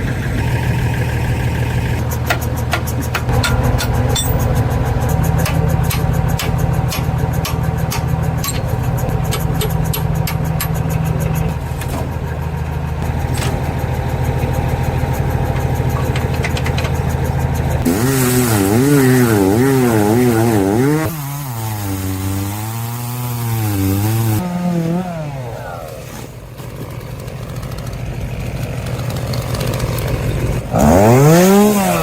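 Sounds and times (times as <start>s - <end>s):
motor running with rapid ticking: 0.0s - 32.0s.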